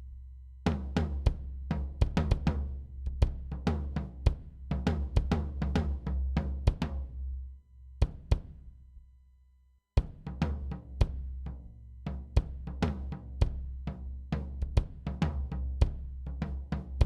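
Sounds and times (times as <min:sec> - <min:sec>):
kick drum and snare beat: 0:00.7 - 0:07.1, 0:08.0 - 0:08.7, 0:10.0 - 0:17.0.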